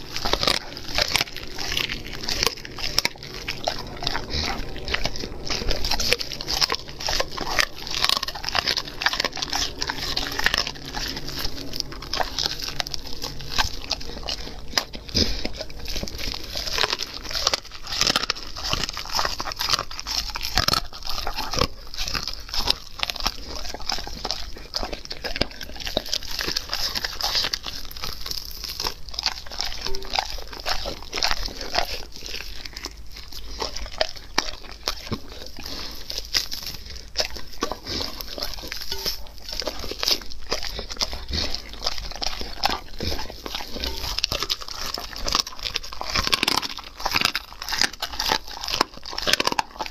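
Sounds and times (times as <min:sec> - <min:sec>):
dog chewing meat on bone: 0:00.0 - 0:49.9.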